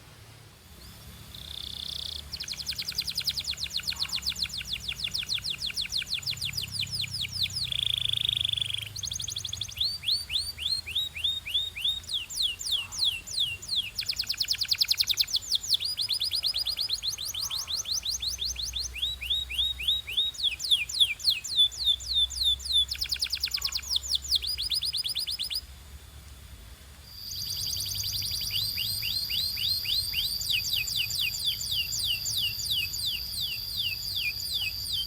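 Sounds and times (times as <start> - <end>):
canary singing: 0.8 - 25.7, 27.1 - 35.0.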